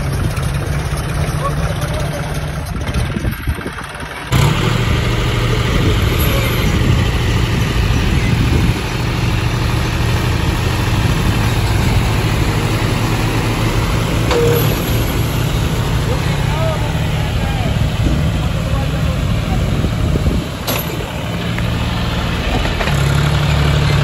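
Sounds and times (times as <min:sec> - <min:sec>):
diesel tractor engines running: 0:00.0 - 0:24.0.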